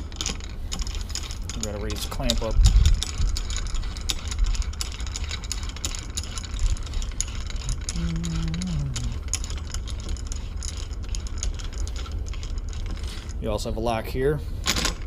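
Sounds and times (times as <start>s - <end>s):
metal clicks and knocks: 0.0s - 13.7s
steady low rumble: 0.0s - 14.6s.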